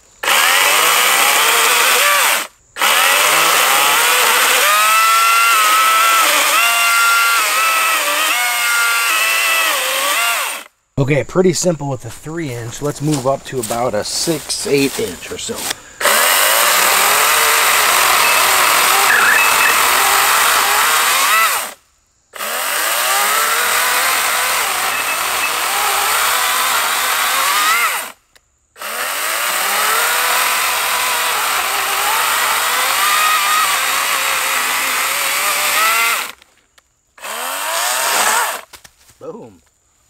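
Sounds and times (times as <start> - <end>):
electric chainsaw cutting log: 0.2 - 10.7, 14.3 - 21.8, 22.4 - 28.2, 28.8 - 36.4, 37.2 - 38.7.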